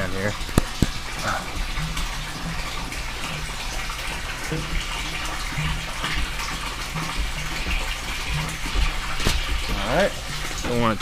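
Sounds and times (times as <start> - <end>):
running splashing water: 0.0 - 11.0.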